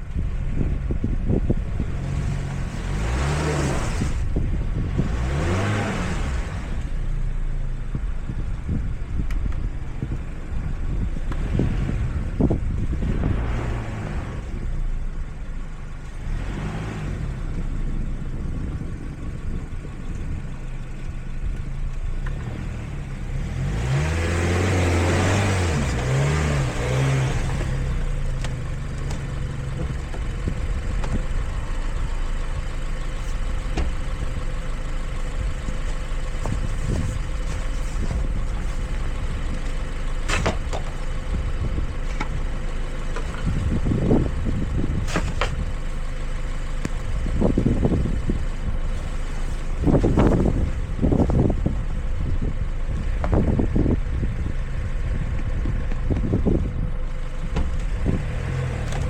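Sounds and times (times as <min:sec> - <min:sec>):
car engine revving: 0:01.3 - 0:07.1, 0:10.9 - 0:14.9, 0:16.0 - 0:18.8, 0:22.2 - 0:46.0, 0:46.8 - 0:59.0.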